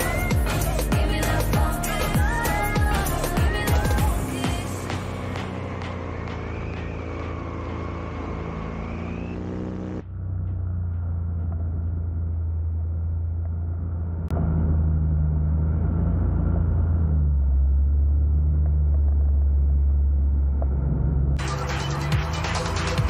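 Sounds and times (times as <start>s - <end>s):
paramotor engine drone: 0.0s - 23.0s.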